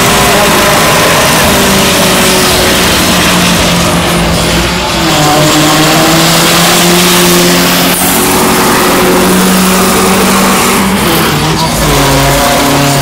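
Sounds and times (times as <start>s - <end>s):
car engine revving high: 0.0s - 13.0s.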